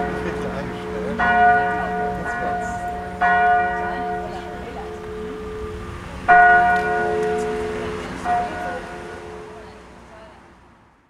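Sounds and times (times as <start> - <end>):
church bells ringing: 0.0 - 10.4.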